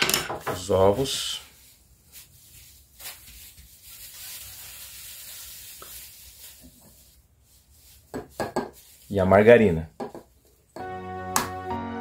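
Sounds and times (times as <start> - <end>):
soft hiss: 0.6 - 10.7.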